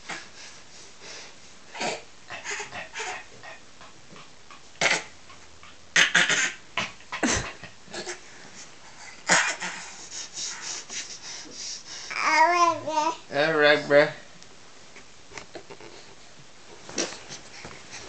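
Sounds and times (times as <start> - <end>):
baby snorting and panting: 0.0 - 12.8, 15.5 - 18.0.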